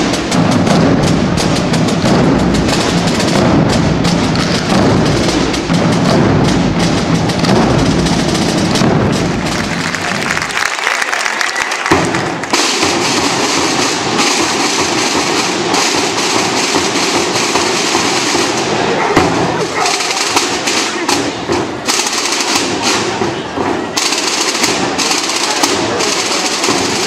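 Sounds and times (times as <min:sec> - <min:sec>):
crowd chatter: 0:00.0 - 0:27.0.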